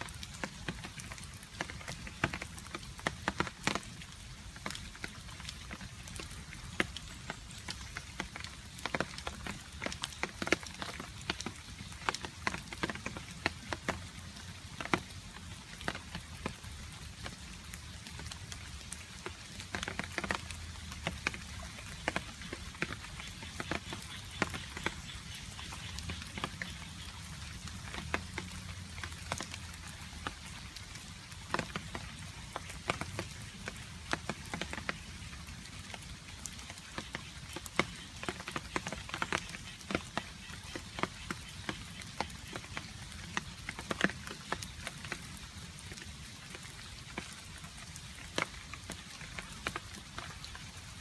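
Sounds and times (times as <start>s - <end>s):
rain hissing: 0.0s - 51.0s.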